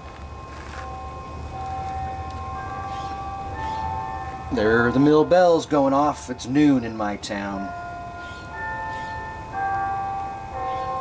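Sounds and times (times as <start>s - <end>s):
bells ringing: 0.0s - 11.0s.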